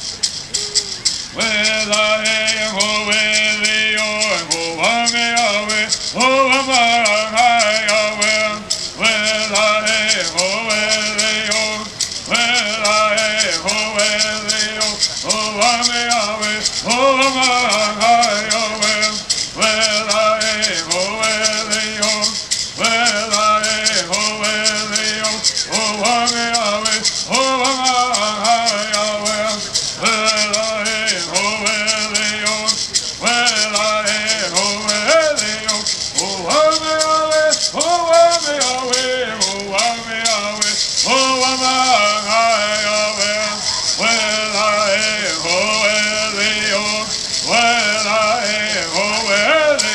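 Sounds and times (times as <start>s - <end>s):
gourd rattles shaken: 0.0s - 49.9s.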